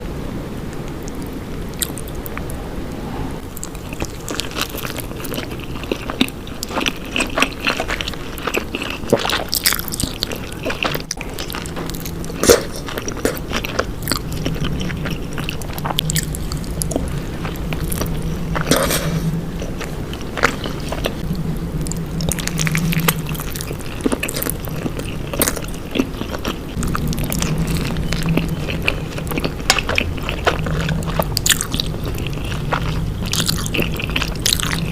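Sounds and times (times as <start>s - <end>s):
biting and chewing food: 0.8s - 2.5s, 3.5s - 34.9s.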